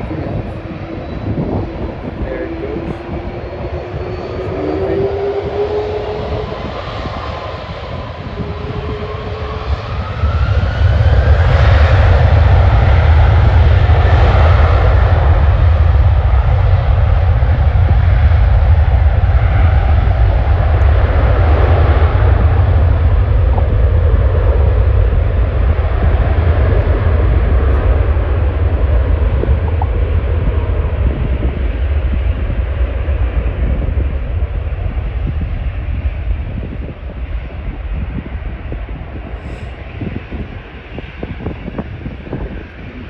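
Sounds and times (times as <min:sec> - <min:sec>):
jet engines roaring: 0:00.0 - 0:43.0.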